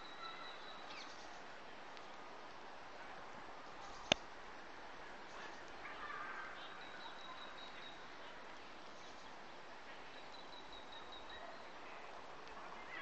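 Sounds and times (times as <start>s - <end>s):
outdoor ambience hiss: 0.0s - 13.0s.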